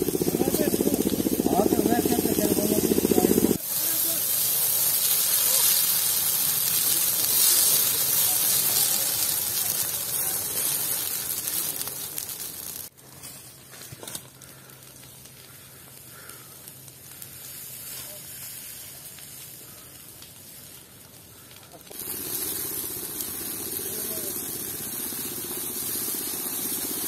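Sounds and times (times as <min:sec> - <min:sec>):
fire burning with hiss: 0:00.0 - 0:27.0.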